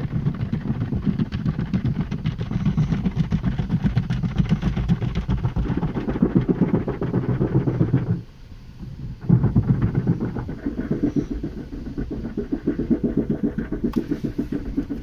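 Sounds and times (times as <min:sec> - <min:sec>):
brush strips slapping car body: 0:00.0 - 0:08.2, 0:09.2 - 0:15.0
car wash mechanical rumble: 0:00.0 - 0:15.0.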